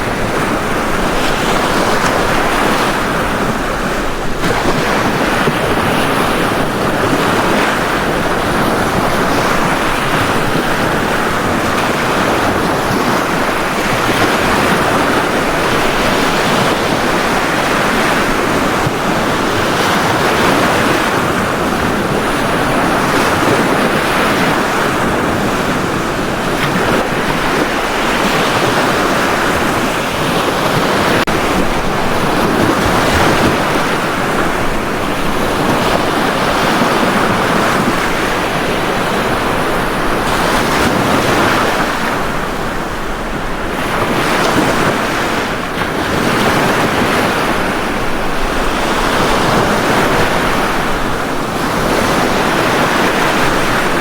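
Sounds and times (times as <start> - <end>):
ocean waves breaking on beach: 0.0 - 54.0
wind on microphone: 0.0 - 54.0.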